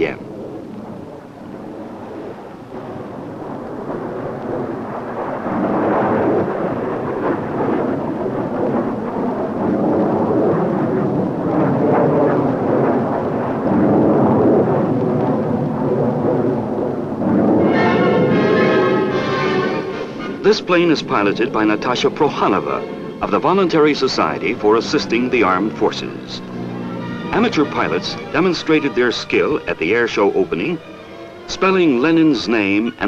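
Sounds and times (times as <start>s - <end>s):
jet engines at takeoff power: 0.0s - 33.0s.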